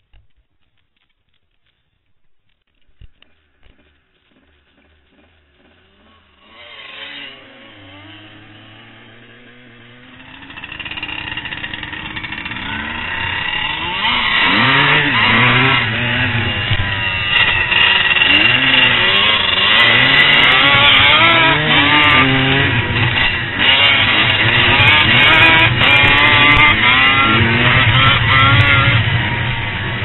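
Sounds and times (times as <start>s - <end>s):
dirt bike engines revving: 3.1s - 30.0s.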